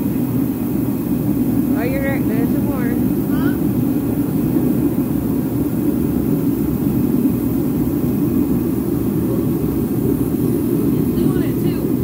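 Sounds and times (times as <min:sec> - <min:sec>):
electric air blower running: 0:00.0 - 0:12.0.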